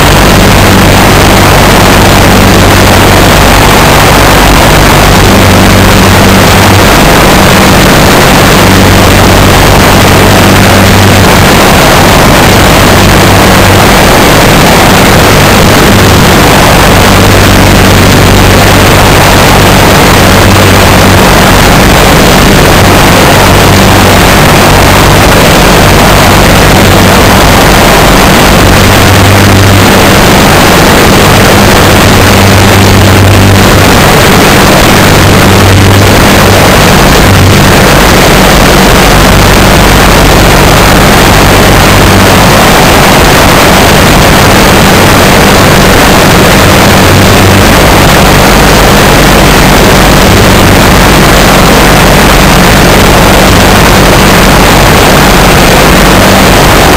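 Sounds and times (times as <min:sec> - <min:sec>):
rush of wind noise: 0:00.0 - 0:56.9
ultralight aircraft engine drone: 0:00.0 - 0:56.9.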